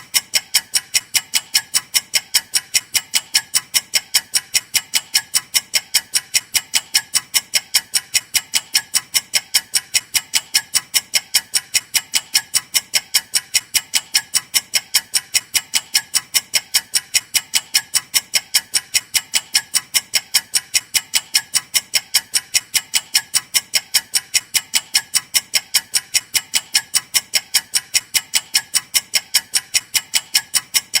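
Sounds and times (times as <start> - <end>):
clock ticking fast: 0.0 - 31.0.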